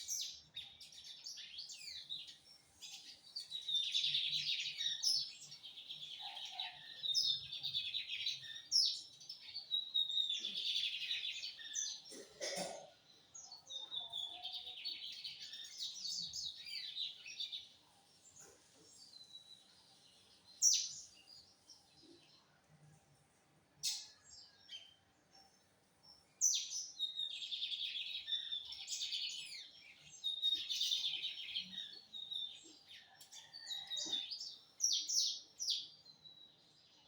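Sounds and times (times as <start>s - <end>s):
bird chirping song: 0.0s - 37.0s.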